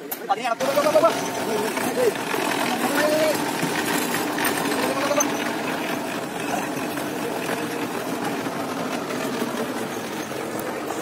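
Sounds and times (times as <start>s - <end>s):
engine idling: 0.3s - 11.0s.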